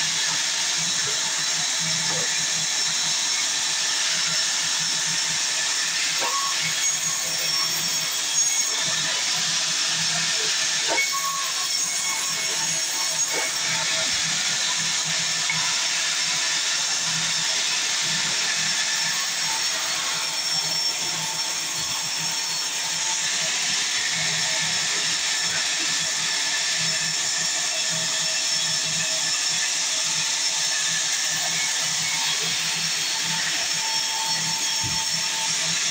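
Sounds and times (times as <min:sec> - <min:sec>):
sawmill saw cutting timber: 0:00.0 - 0:35.9.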